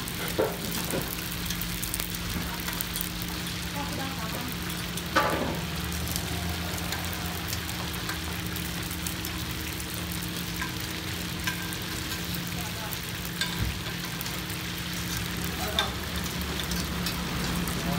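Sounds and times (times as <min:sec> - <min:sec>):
buns sizzling in oil: 0:00.0 - 0:17.9.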